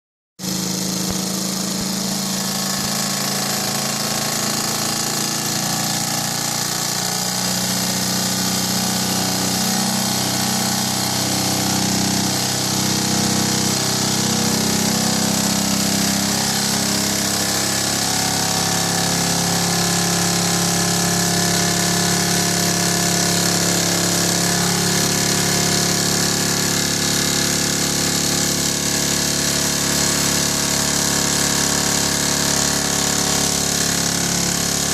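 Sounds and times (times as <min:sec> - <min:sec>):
engine mechanical rattle: 0:00.5 - 0:34.9.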